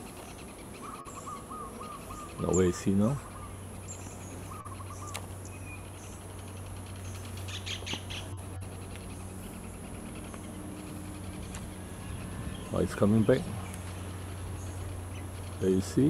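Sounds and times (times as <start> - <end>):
kingfisher calling: 0.0 - 16.0
low hum: 0.0 - 16.0.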